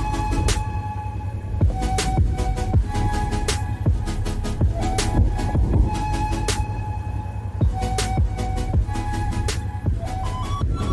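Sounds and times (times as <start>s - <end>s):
electronic music with bass beat: 0.0s - 10.9s.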